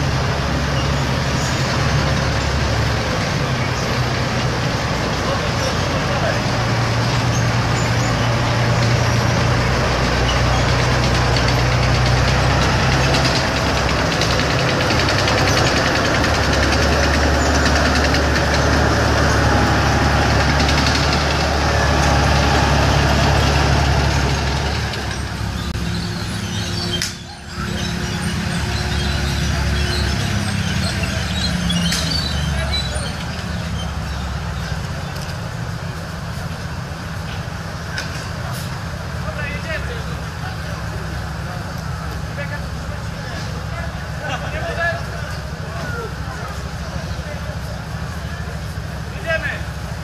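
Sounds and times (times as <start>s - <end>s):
tank engine running loud: 0.0s - 50.0s.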